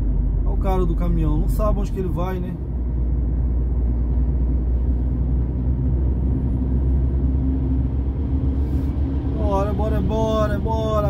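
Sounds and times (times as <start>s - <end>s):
diesel engine rumble: 0.0s - 11.0s
faint engine hum: 0.0s - 11.0s
road noise: 0.0s - 11.0s.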